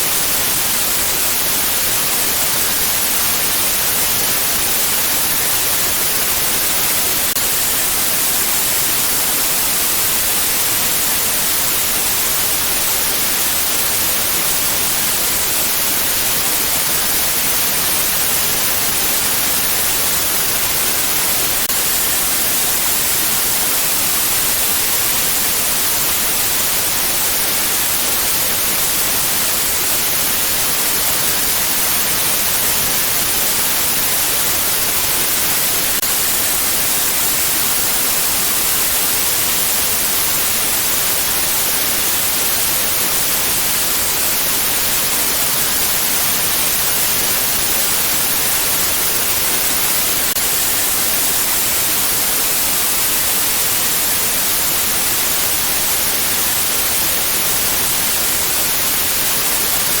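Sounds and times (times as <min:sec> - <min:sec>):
steady white noise hiss: 0:00.0 - 1:00.0.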